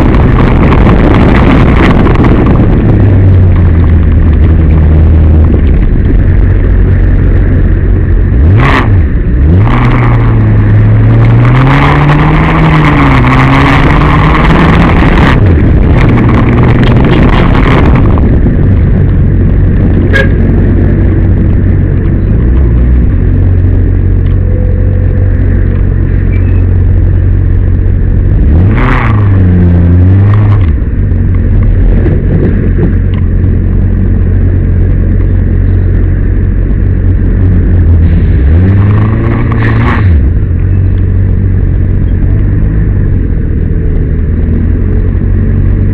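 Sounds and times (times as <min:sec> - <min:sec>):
road noise: 0:00.0 - 0:45.9
vehicle engine running: 0:00.0 - 0:45.9.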